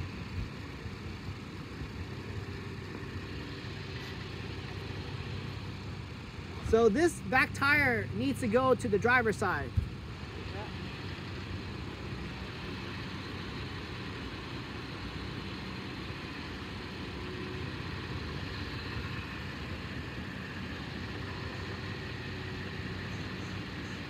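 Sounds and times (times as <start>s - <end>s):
suv engine idling: 0.0s - 24.0s.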